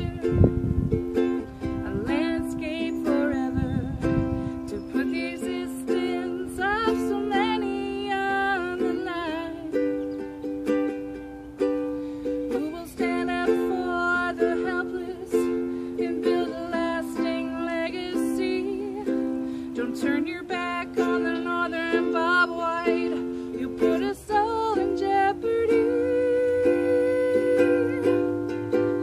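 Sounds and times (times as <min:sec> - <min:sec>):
person singing: 0:00.0 - 0:29.0
ukulele strumming chords: 0:00.0 - 0:29.0.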